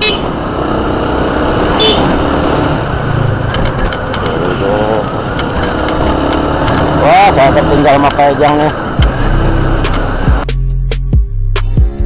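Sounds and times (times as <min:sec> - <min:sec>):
small motorcycle engine running: 0:00.0 - 0:10.4
road and wind noise: 0:00.0 - 0:11.0.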